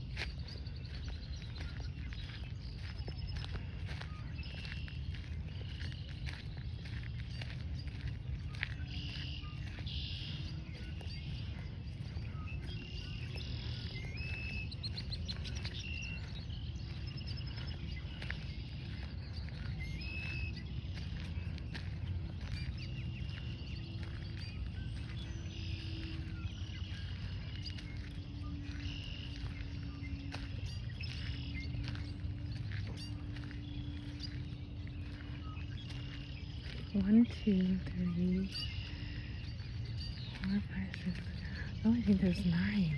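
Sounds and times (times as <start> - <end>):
small birds chirping: 0.0 - 42.9
steady low hum: 0.0 - 42.9
steady low rumble: 0.0 - 42.9.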